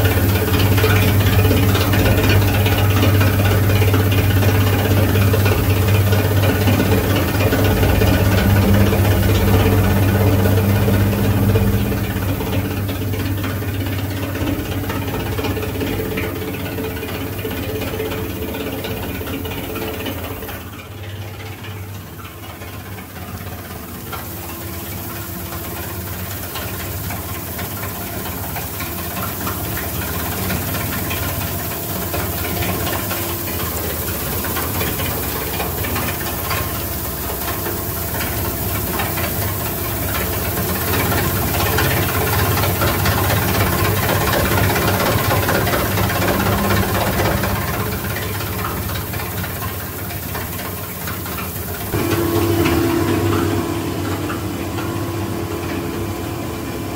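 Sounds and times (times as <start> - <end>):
shredder motor hum: 0.0 - 21.8, 22.6 - 56.9.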